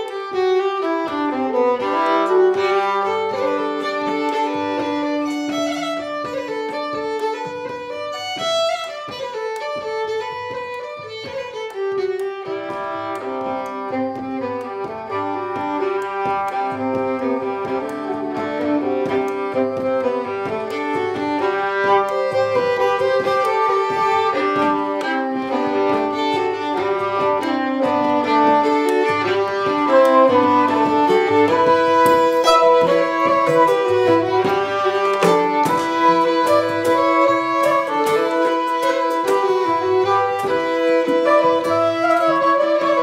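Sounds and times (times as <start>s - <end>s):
soprano saxophone melody: 0.0s - 7.2s, 12.2s - 43.0s
violin melody: 0.0s - 43.0s.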